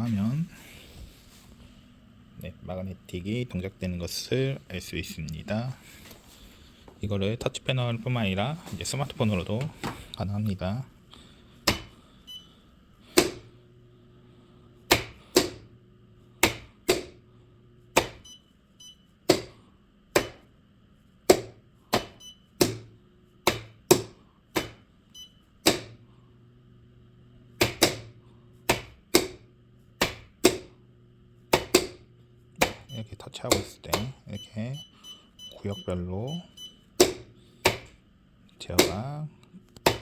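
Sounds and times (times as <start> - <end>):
low hum of contactor coils: 0.0 - 40.0.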